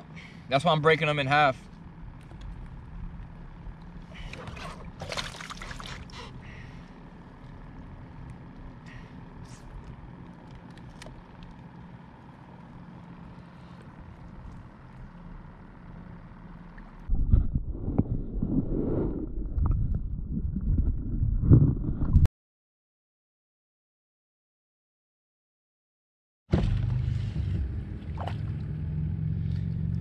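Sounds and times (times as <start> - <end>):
muffled underwater churning: 0.0 - 22.3, 26.6 - 30.0
steady low hum: 0.0 - 22.3, 26.6 - 30.0.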